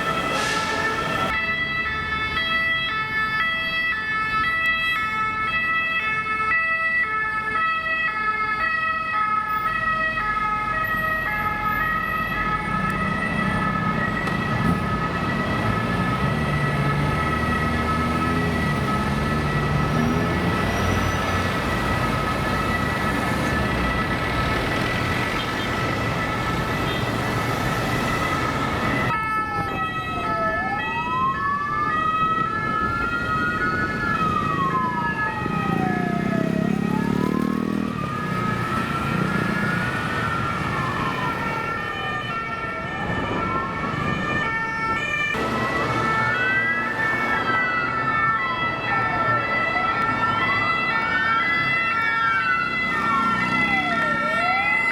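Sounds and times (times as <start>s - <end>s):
siren gliding down and up: 0.0s - 54.9s
steady high siren tone: 0.0s - 54.9s
two-tone siren: 0.0s - 54.9s
traffic rumble: 9.2s - 54.9s.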